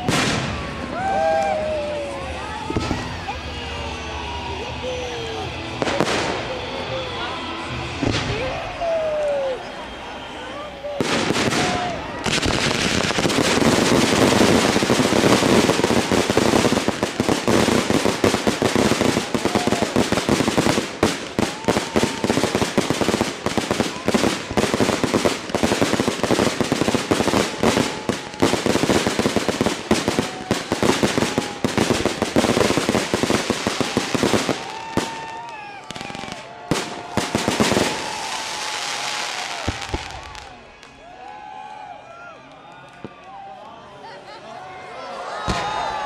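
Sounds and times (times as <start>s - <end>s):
fireworks bangs and crackling: 0.0s - 9.6s, 10.8s - 41.0s, 45.5s - 46.0s.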